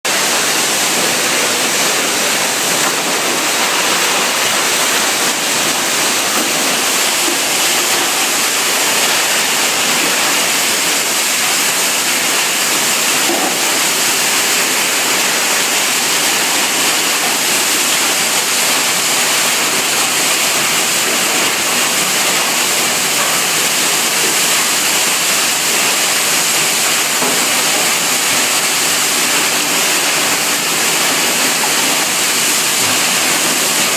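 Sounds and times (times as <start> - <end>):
water rushing in washing machine: 0.1 - 33.9.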